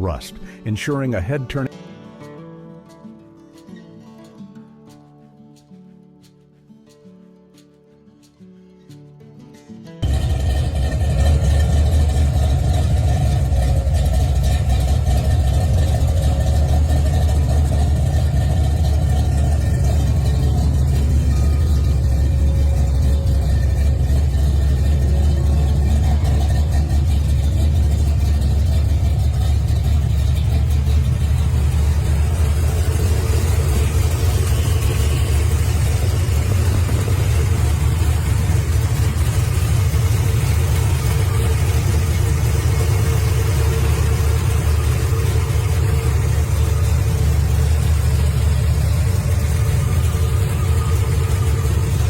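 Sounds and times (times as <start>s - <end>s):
car engine rumbling: 10.0s - 52.0s.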